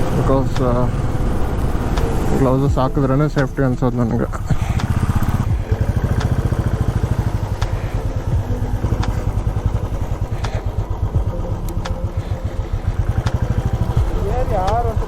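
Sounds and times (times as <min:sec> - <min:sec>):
light ticking: 0:00.0 - 0:15.0
motorcycle engine running: 0:00.0 - 0:15.0.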